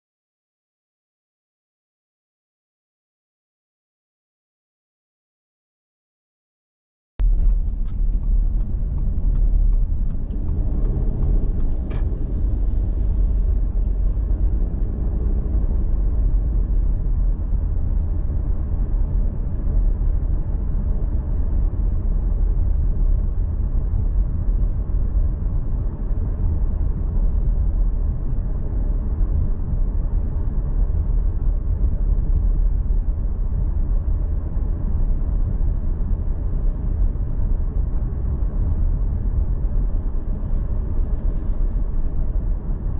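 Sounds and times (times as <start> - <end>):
vehicle driving along street: 7.2 - 42.9
wind noise: 7.2 - 42.9.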